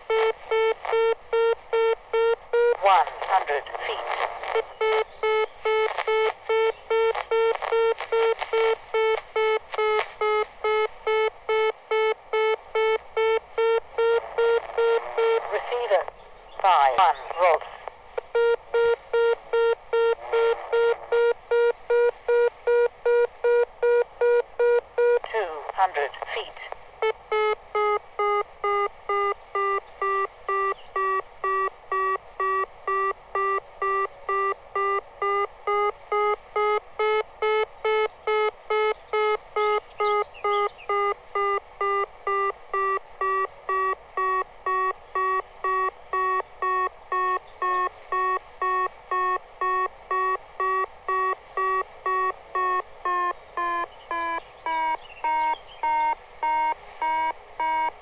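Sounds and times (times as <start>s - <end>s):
electronic beeping tone: 0.1s - 16.0s, 17.3s - 58.0s.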